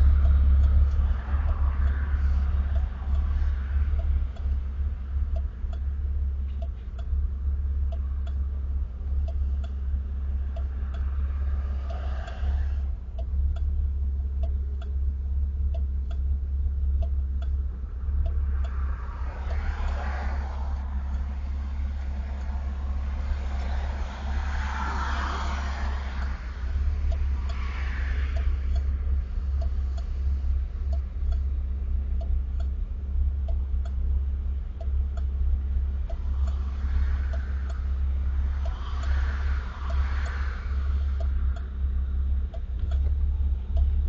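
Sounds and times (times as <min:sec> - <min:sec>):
faint regular ticks: 0:00.0 - 0:44.0.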